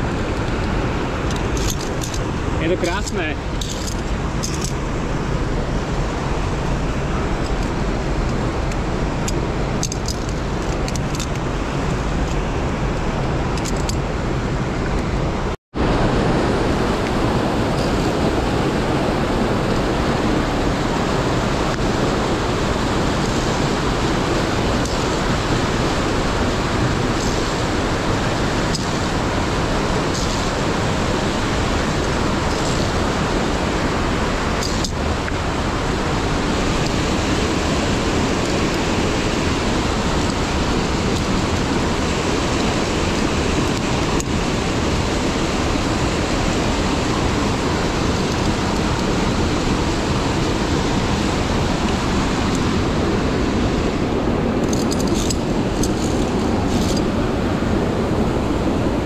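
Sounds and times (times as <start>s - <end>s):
mountain stream rushing: 0.0s - 59.0s.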